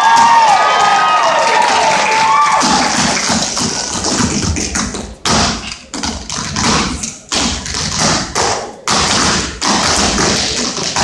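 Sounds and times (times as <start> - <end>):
loud foot stamps: 0.0 - 11.0
tap shoes on stage floor: 0.0 - 11.0.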